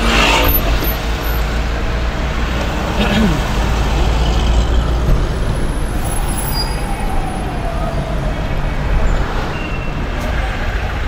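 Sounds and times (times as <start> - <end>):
car engine and road rumble: 0.0 - 11.0
city traffic: 0.0 - 11.0.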